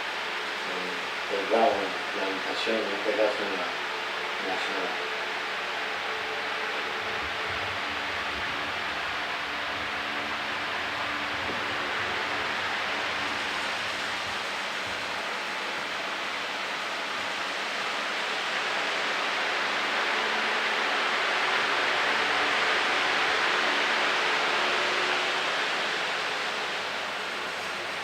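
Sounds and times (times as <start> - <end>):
faint motor hum: 0.0 - 28.0
fan air rushing: 0.0 - 28.0.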